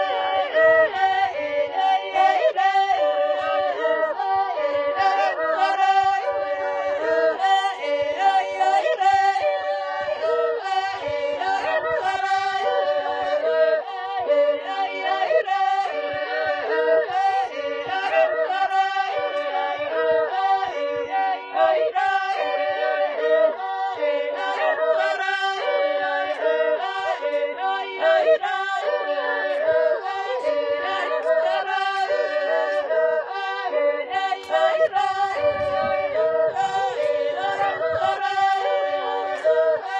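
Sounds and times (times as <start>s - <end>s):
voices singing a cappella: 0.0s - 39.9s.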